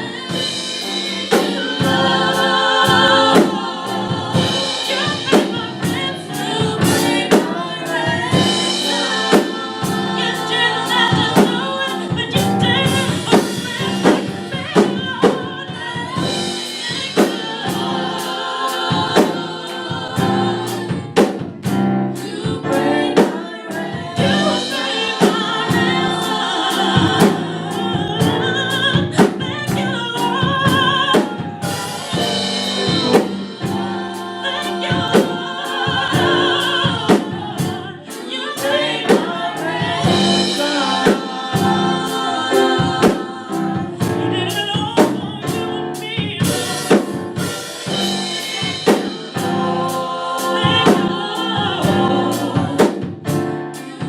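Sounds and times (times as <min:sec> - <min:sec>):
drum kit beat: 0:00.0 - 0:54.0
gospel group singing in harmony: 0:00.0 - 0:54.0.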